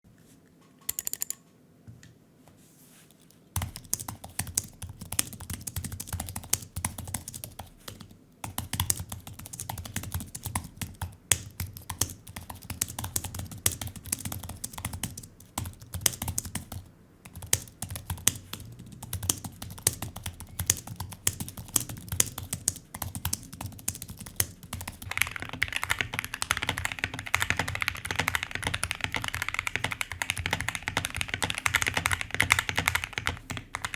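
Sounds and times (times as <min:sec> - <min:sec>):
mechanical keyboard typing clatter: 0:00.9 - 0:01.4, 0:03.6 - 0:33.9.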